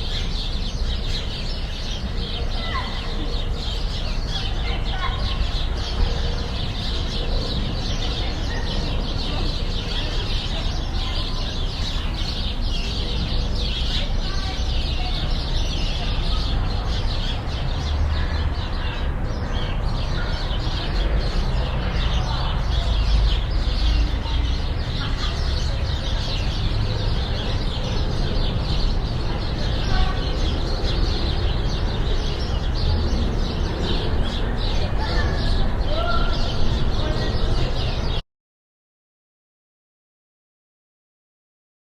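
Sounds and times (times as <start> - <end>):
small birds chirping: 0.0 - 38.2
children's voices: 0.2 - 38.2.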